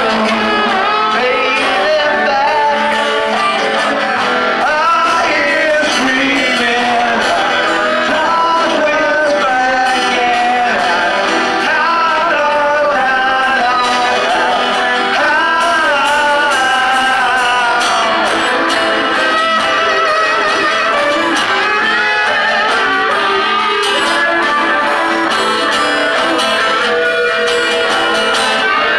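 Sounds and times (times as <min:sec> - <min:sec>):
person singing: 0:00.0 - 0:28.9
rock band playing: 0:00.0 - 0:28.9.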